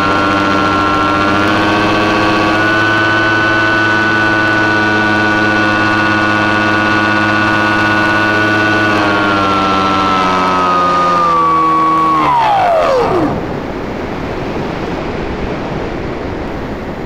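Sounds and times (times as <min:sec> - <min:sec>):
model airplane motor droning: 0:00.0 - 0:14.9.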